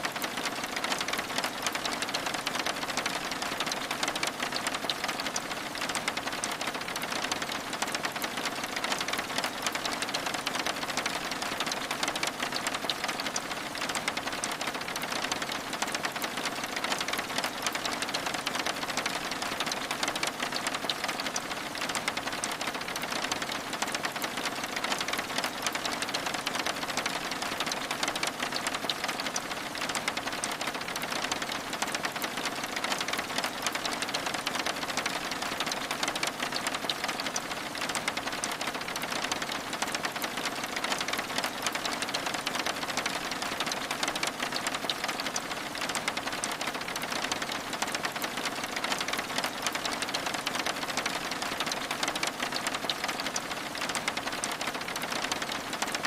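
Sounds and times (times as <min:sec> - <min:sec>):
rain pattering on window glass: 0:00.0 - 0:56.0.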